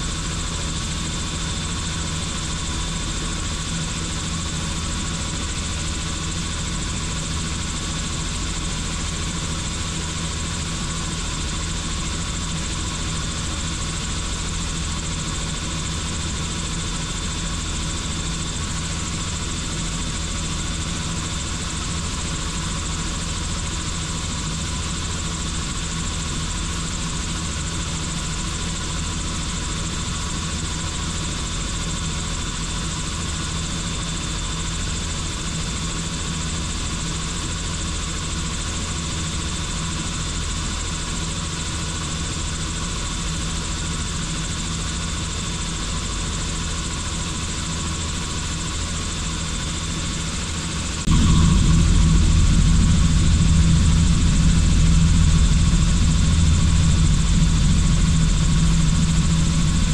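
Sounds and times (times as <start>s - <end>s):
turbine engine high whine: 0.0s - 31.9s, 39.3s - 59.9s
helicopter rotor drone: 0.0s - 59.9s.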